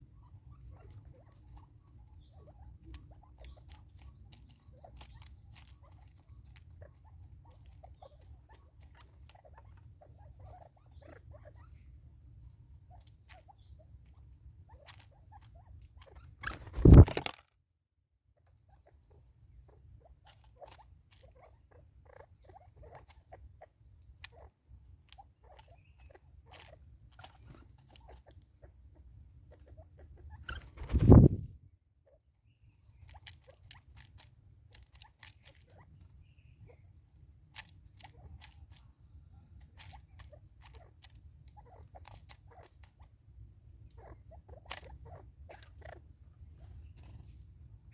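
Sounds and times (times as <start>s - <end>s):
birds pecking seed: 0.0s - 47.9s.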